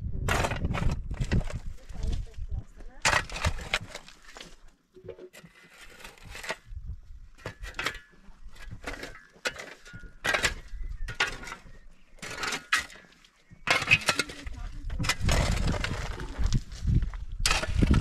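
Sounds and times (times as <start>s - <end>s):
hand scraping mud on stone: 3.0s - 18.0s.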